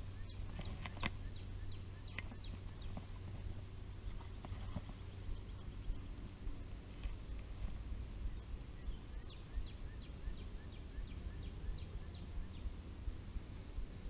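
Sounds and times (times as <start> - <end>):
bird singing: 0.0 - 12.9.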